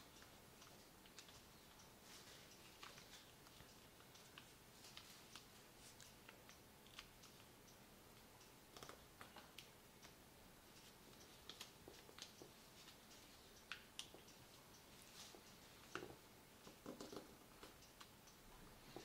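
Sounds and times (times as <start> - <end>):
low hiss: 0.0 - 19.0.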